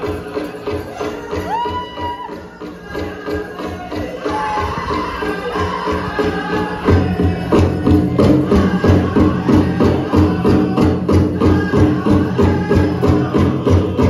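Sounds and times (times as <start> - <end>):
group singing: 0.0 - 14.0
large drum steady fast beat: 0.0 - 14.0.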